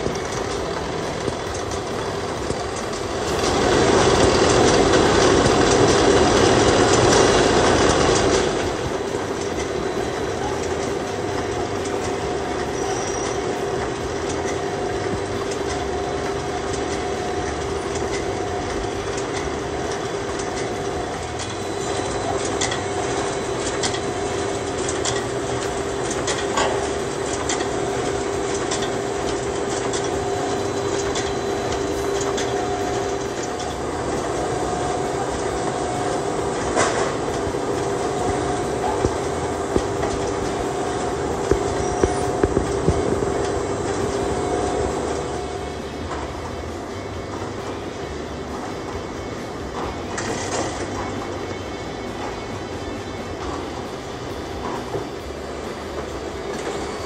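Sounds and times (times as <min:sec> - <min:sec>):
machine humming: 0:00.0 - 0:57.0.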